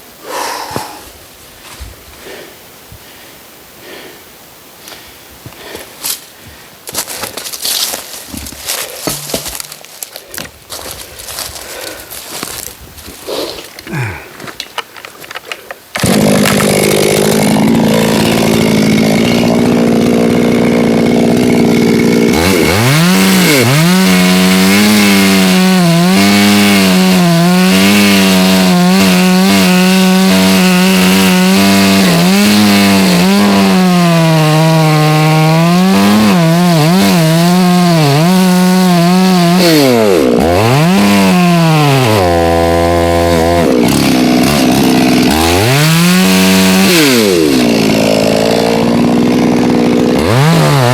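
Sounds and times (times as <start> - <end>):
chainsaw cutting wood: 6.9 - 12.7, 13.3 - 50.9.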